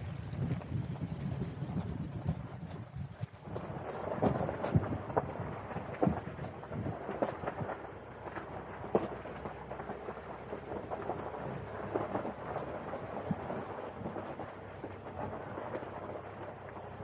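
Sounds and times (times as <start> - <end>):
tyres crunching on gravel: 0.0 - 17.0
vehicle rumble: 0.0 - 17.0.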